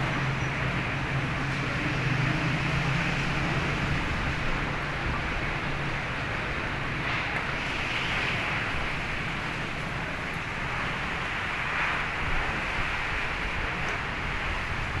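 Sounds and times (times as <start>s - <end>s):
heavy rain: 0.0s - 15.0s
storm wind: 0.0s - 15.0s.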